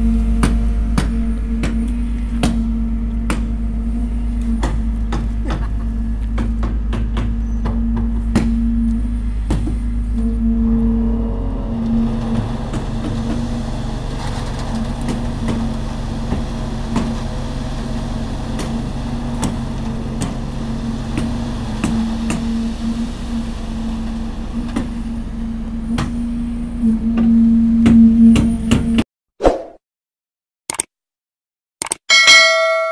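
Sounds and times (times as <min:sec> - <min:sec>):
concrete vibrator humming: 0:00.0 - 0:29.0
diesel engines rumbling: 0:00.0 - 0:29.0.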